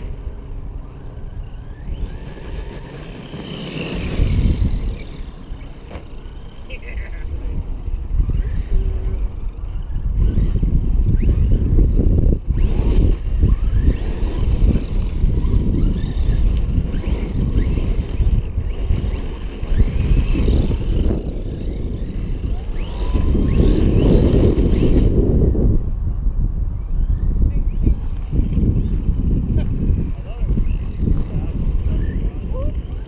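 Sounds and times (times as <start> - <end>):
electric motors whining: 0.0 - 26.0, 26.8 - 33.0
wind noise on microphone: 0.0 - 33.0.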